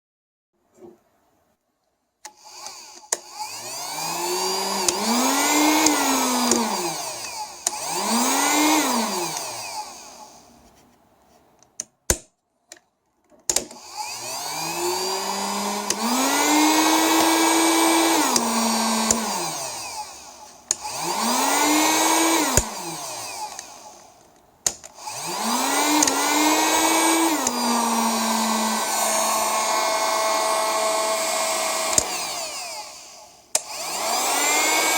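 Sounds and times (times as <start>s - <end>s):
hot air gun fan motor: 2.3s - 10.5s, 13.7s - 34.9s.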